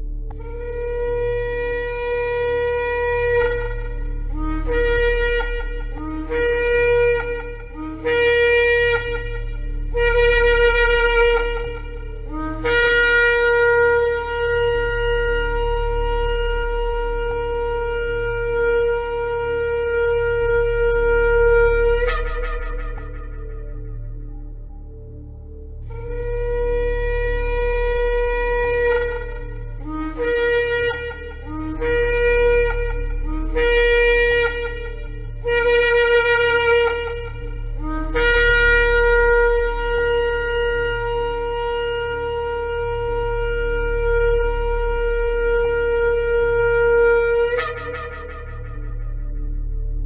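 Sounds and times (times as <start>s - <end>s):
low steady hum: 0.0s - 50.0s
ram's horn blasts: 0.0s - 50.0s.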